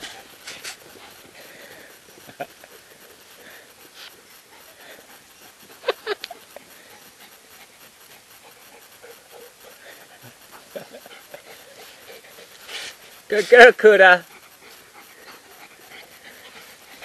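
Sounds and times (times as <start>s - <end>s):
dog panting hard: 0.0s - 17.0s.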